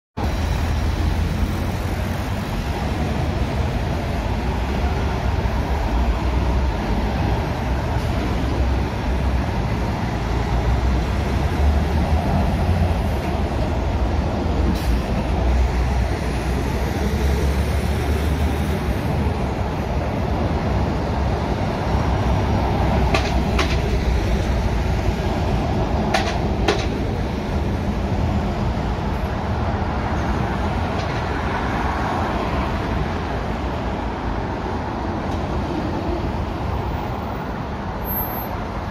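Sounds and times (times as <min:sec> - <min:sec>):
lorries and cars driving past: 0:00.2 - 0:38.9.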